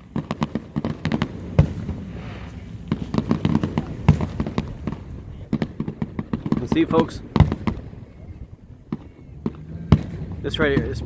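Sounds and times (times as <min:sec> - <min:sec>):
fireworks bangs and crackles: 0:00.0 - 0:11.0
fireworks booms: 0:00.0 - 0:11.0.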